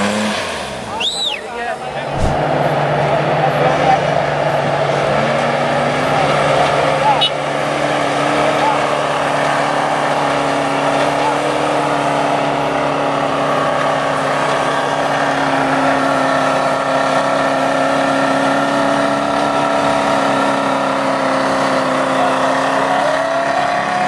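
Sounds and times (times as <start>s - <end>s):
engine running at high revs: 0.0s - 24.0s.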